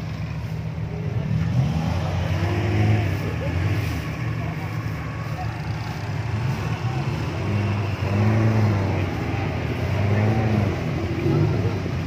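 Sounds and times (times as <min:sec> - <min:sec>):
engine revving: 0:01.1 - 0:12.0.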